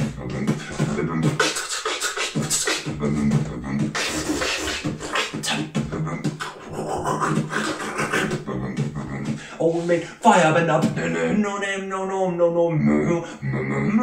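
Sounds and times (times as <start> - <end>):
beatboxing: 0.0 - 11.6, 12.7 - 14.0.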